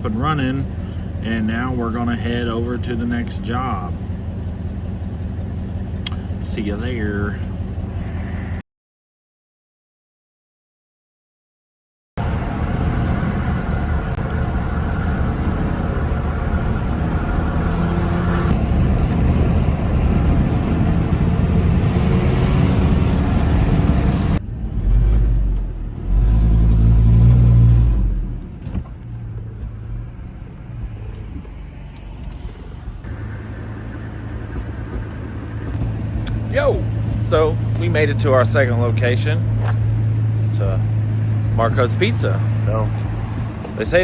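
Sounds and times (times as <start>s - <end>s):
vehicle engine and road rumble: 0.0s - 8.6s, 12.2s - 44.0s.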